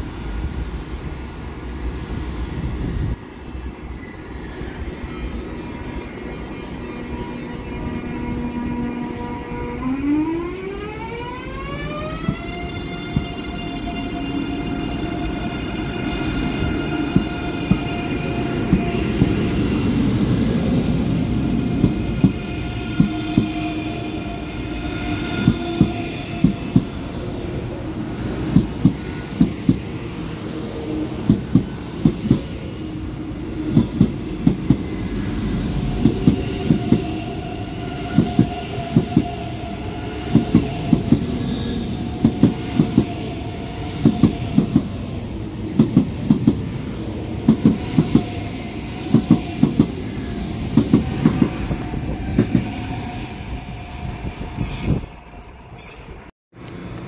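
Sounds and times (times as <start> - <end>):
train rumble and whine: 0.0 - 57.0.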